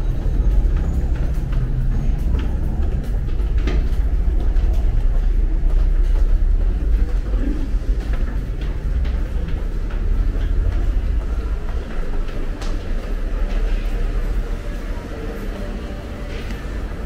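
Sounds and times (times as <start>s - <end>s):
footsteps on tiled floor: 0.0s - 17.0s
subway train rumble: 0.0s - 17.0s.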